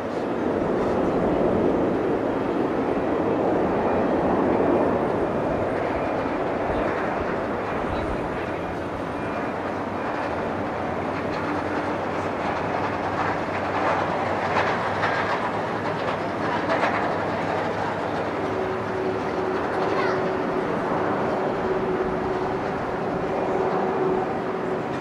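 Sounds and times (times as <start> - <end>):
distant jet engine roar: 0.0 - 25.0.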